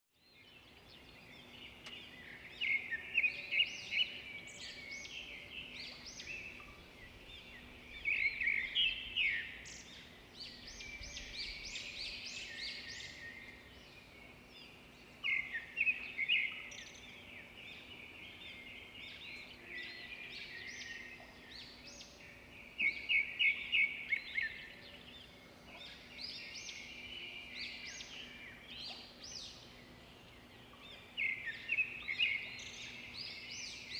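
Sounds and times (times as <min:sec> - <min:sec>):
birds chirping and singing: 0:00.2 - 0:33.9.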